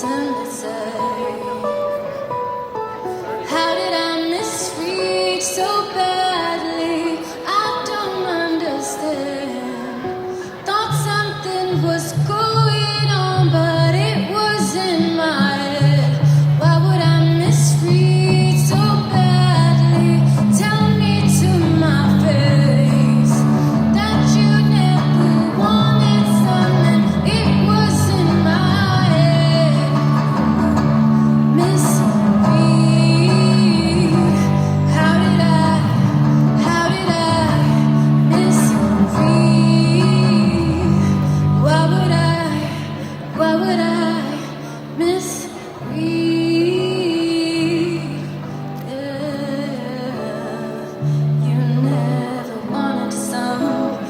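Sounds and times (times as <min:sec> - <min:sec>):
woman singing: 0:00.0 - 0:02.4, 0:03.1 - 0:54.0
strummed guitar chords: 0:00.0 - 0:54.0.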